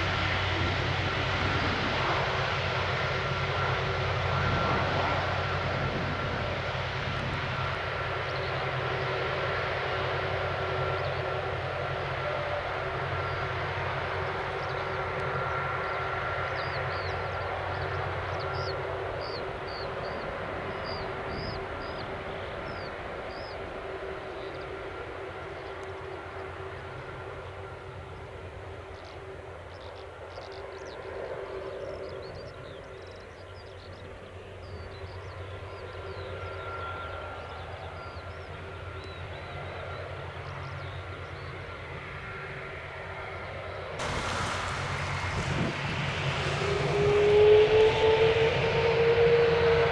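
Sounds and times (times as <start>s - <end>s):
jet engine hum and whine: 0.0s - 49.9s.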